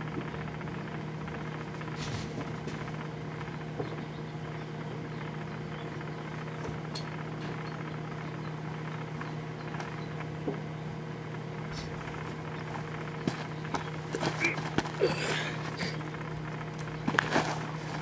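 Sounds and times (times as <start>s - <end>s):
microwave oven humming: 0.0s - 18.0s.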